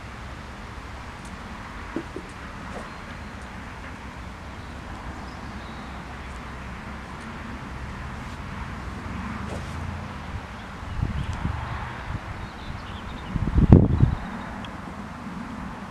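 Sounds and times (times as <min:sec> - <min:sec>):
distant background noise: 0:00.0 - 0:15.9
wind rumble: 0:00.0 - 0:15.9.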